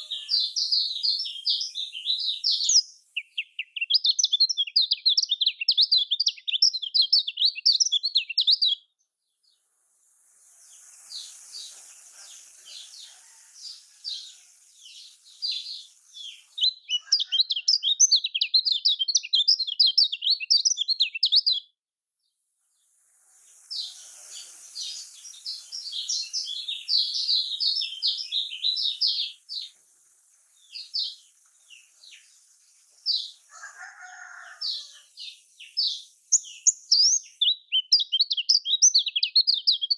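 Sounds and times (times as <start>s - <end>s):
bird singing fast chattering song: 0.0s - 21.8s, 22.7s - 39.9s.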